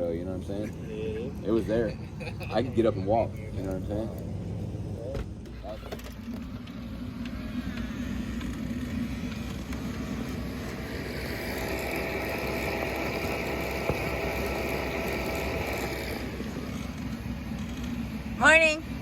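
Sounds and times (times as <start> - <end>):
vehicle rumble: 0.0 - 19.0.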